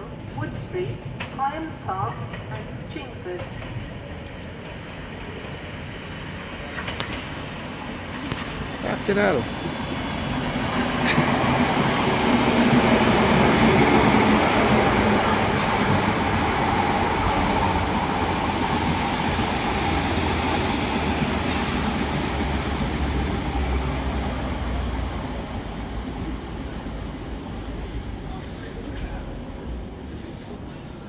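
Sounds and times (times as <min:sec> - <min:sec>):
train running: 0:00.0 - 0:31.0.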